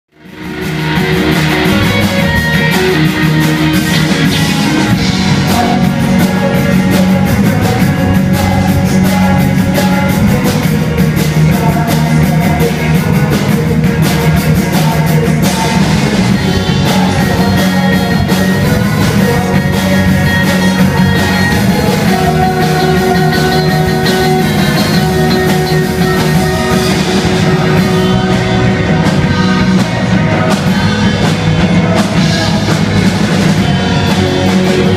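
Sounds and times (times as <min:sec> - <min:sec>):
drum kit: 0:00.1 - 0:34.9
electric guitars: 0:00.1 - 0:34.9.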